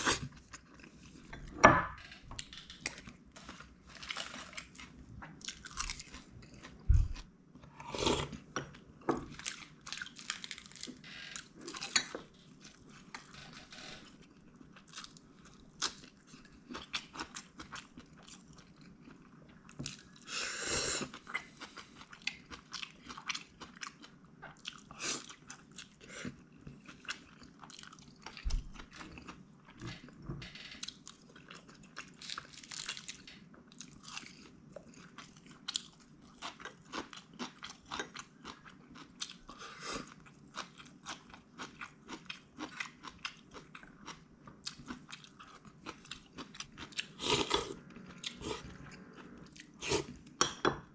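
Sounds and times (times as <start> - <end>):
person chewing and crunching food: 0.0 - 20.3, 20.9 - 30.2, 30.8 - 50.4.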